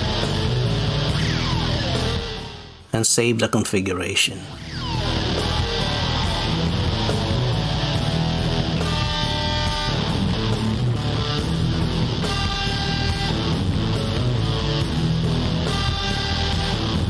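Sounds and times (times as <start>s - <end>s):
blues-rock electric guitar music: 0.0s - 2.9s, 4.2s - 17.0s.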